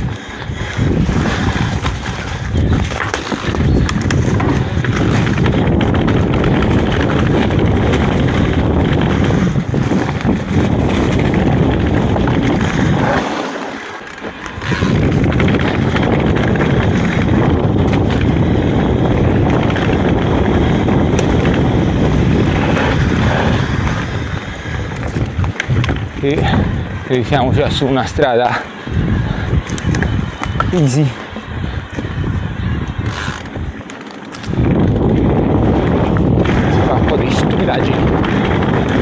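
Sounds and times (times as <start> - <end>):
bike clicks and rattles: 0.0 - 39.0
rumble of bike tyres: 0.0 - 39.0
wind buffeting microphone: 0.0 - 39.0.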